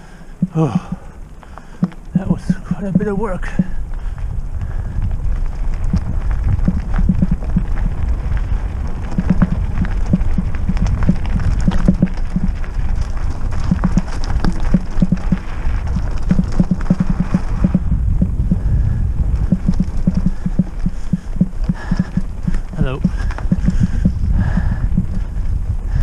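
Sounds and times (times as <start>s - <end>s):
bike clattering over bumps: 0.0s - 26.0s
wind rumble on microphone: 0.0s - 26.0s.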